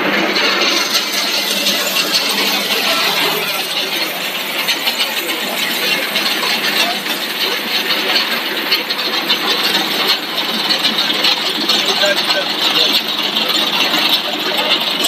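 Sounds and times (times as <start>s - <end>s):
loud rattling machine noise: 0.0s - 15.0s.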